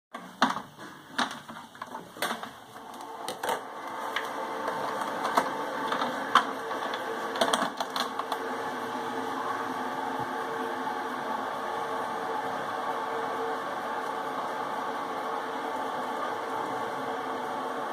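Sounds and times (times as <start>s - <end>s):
coffee machine humming: 0.4s - 17.9s.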